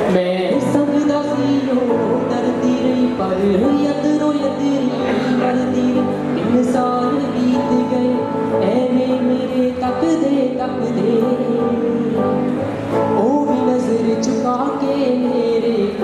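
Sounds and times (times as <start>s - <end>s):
backing music: 0.0s - 16.0s
man singing into microphone: 0.0s - 16.0s.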